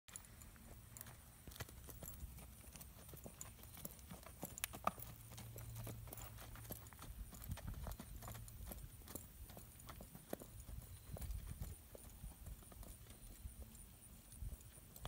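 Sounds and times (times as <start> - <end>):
hoofbeats on dirt: 0.1 - 15.0.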